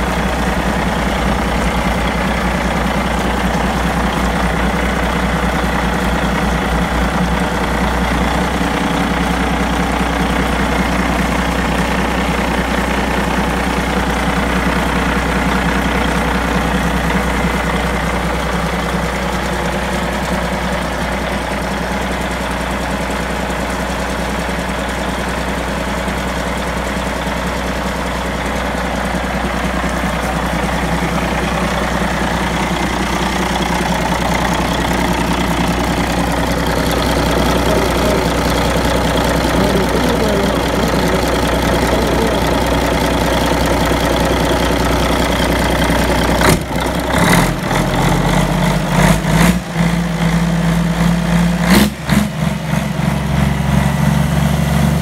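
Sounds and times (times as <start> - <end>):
marine diesel engine running: 0.0 - 55.0.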